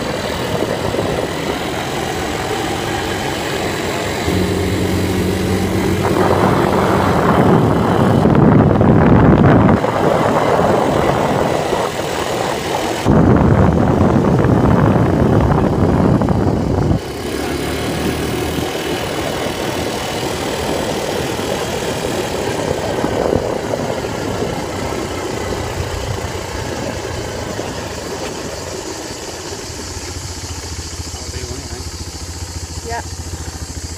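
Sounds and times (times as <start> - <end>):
wind rushing on microphone: 0.0 - 30.7
quad bike engine running: 0.0 - 33.9.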